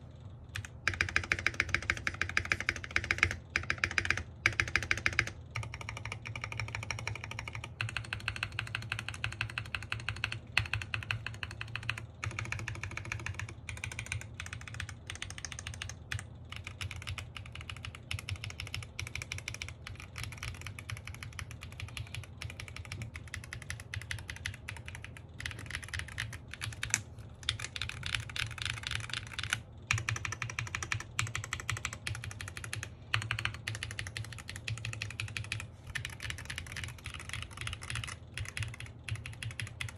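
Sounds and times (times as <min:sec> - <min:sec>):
mechanical keyboard typing: 0:00.5 - 0:39.9.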